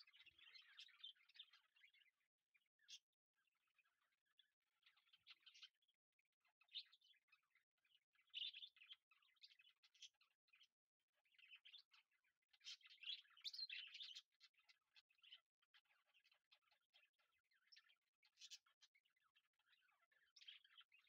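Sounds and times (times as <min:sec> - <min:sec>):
faint bird chirping: 0:00.0 - 0:21.0.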